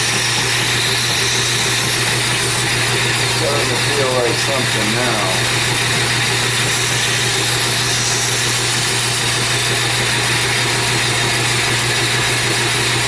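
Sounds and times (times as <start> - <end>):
belt grinder running: 0.0 - 13.0.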